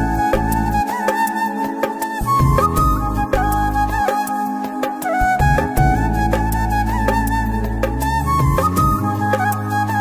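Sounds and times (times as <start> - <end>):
melody over bass and percussion: 0.0 - 10.0.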